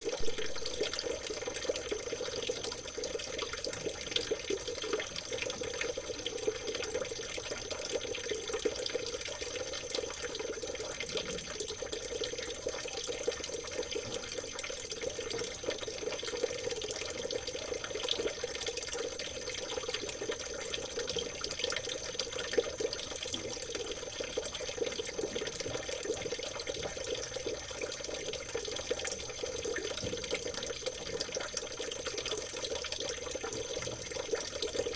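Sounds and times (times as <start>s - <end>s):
water trickling and babbling: 0.0s - 34.9s.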